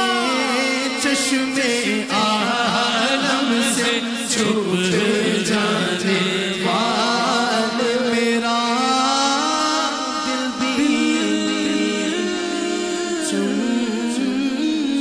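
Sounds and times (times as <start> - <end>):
lead male voice singing: 0.0 - 15.0.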